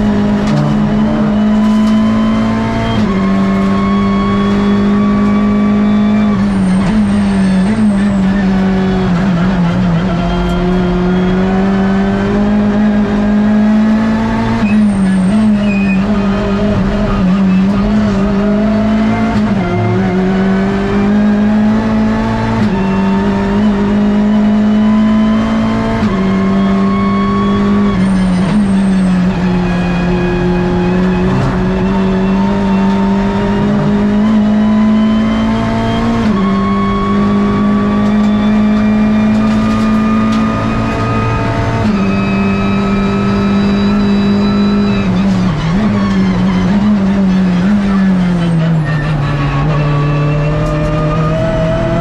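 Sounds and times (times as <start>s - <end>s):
race car engine under load: 0.0s - 52.0s.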